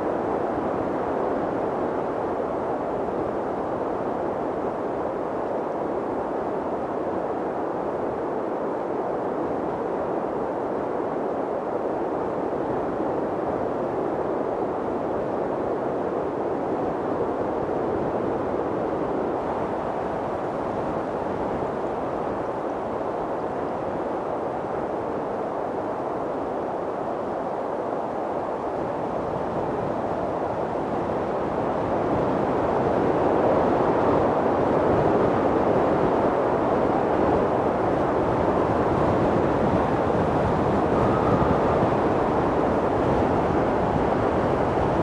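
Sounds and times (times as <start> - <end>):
wind blowing steadily: 0.0 - 45.0.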